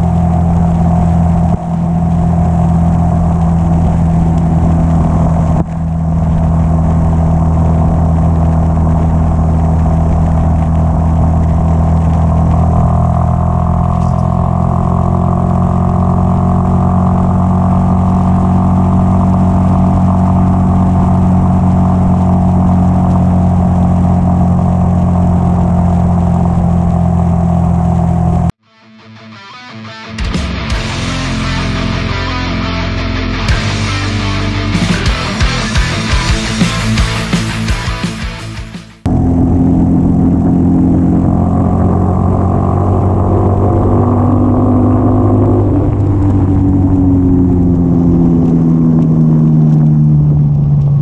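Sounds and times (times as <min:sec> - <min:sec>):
motorcycle engine running: 0:00.0 - 0:28.6, 0:30.2 - 0:51.0.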